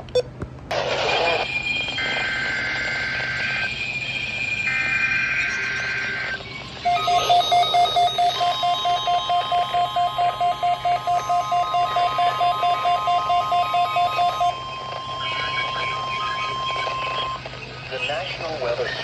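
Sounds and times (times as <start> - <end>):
radio alarm beeping rapidly: 1.4 - 17.4
steady warning alarm tone: 1.4 - 17.5.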